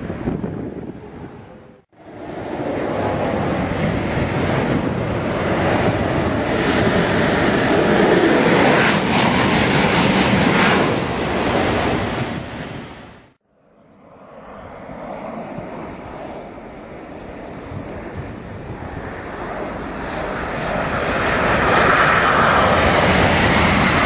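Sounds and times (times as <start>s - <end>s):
high-speed train passing: 0.0s - 24.0s.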